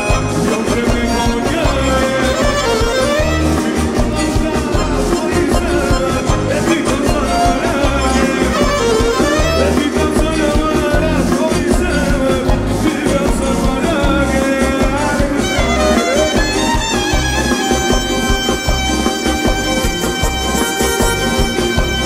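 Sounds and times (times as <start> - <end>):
music with singing voice: 0.0 - 22.0
pulsing bass beat: 0.0 - 22.0.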